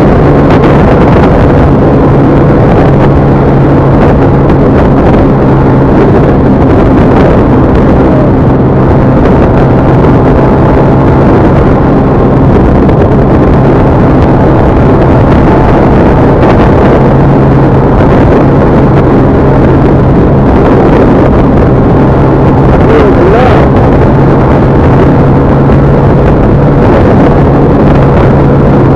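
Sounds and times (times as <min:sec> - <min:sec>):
constant low hum: 0:00.0 - 0:28.9
vehicle engine and road noise: 0:00.0 - 0:28.9.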